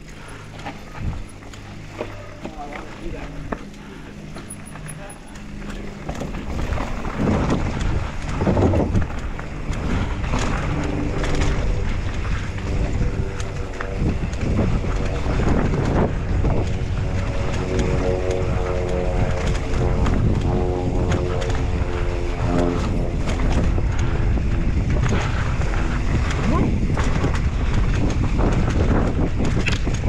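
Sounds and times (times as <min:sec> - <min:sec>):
steady pitched hum: 0:00.0 - 0:29.5
mountain bike rattling: 0:00.0 - 0:30.0
wind rushing over microphone: 0:00.0 - 0:30.0.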